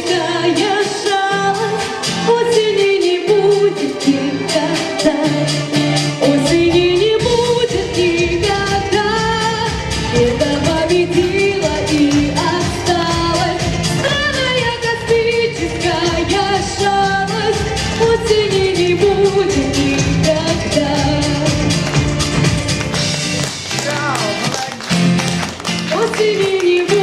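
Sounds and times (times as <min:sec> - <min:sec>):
pop song with singing: 0:00.0 - 0:25.0, 0:25.7 - 0:27.0.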